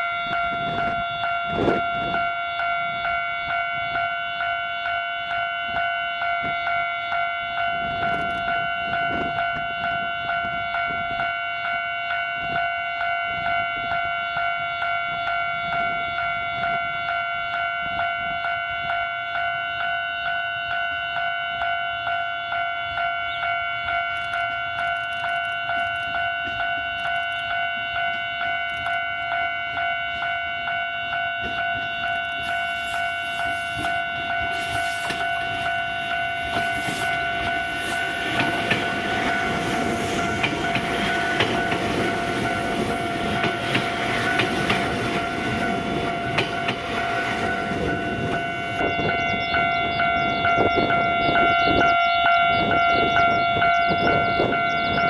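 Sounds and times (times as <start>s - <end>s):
level crossing warning bell: 0.0s - 55.0s.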